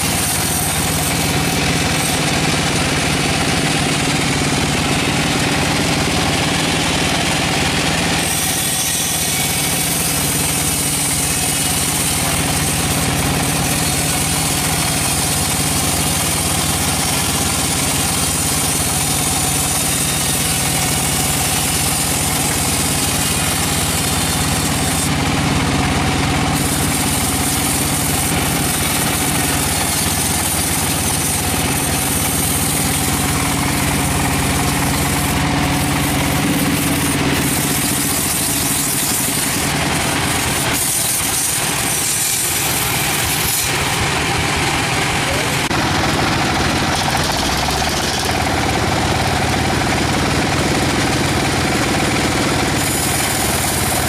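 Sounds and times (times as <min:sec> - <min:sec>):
band sawmill droning: 0:00.0 - 0:54.0.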